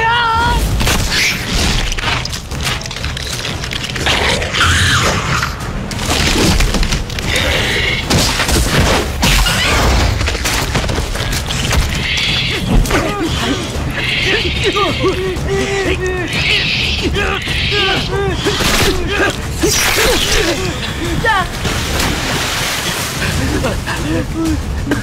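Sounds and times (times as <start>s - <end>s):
dramatic music: 0.0s - 25.0s.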